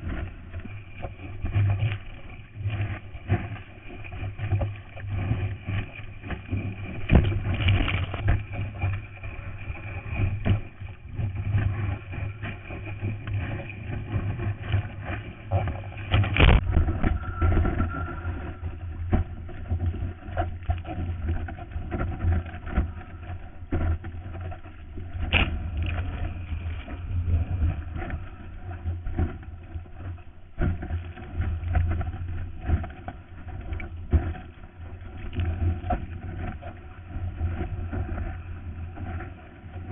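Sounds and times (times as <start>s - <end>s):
low rumbling water: 0.0s - 39.9s
muffled water sloshing: 0.0s - 39.9s.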